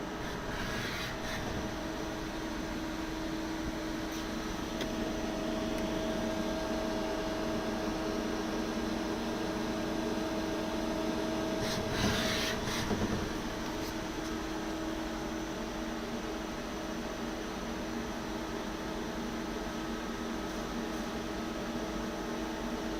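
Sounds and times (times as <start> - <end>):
lathe machine hum with whine: 0.0 - 22.9.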